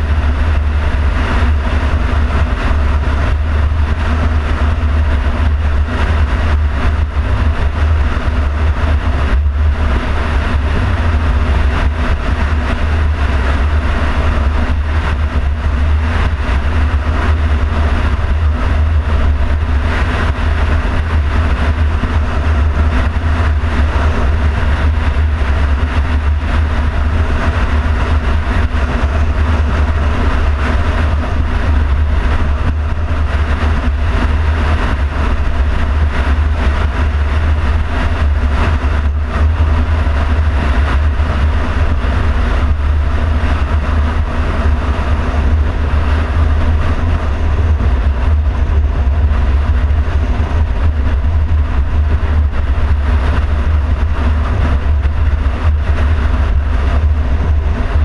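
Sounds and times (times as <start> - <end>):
car road and wind rumble: 0.0 - 58.0.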